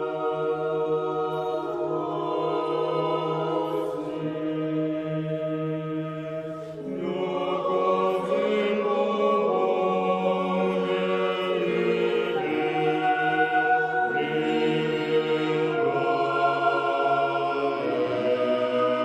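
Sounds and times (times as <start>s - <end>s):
choir singing sustained notes: 0.0s - 19.0s.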